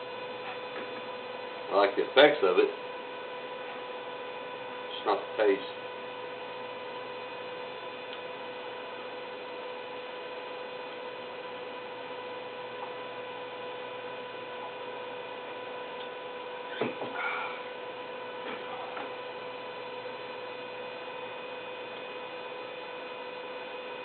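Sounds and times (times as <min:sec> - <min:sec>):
electrical hum: 0:00.0 - 0:24.0
thin two-tone whine: 0:00.0 - 0:24.0.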